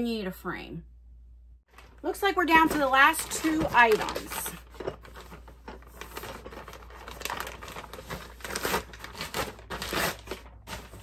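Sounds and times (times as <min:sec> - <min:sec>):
plastic bag crinkling: 0:01.7 - 0:11.0.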